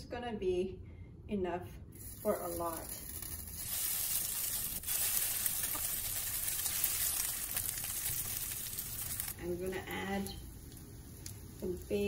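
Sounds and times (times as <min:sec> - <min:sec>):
batter sizzling in hot oil: 0:02.0 - 0:12.0.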